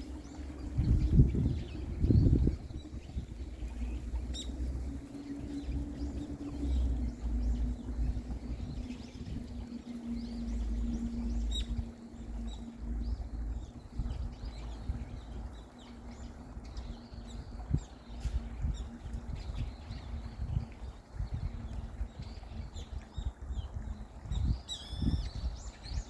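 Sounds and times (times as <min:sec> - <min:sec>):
low rumble: 0:00.0 - 0:26.0
small birds chirping: 0:00.0 - 0:26.0
steady low hum: 0:00.0 - 0:26.0.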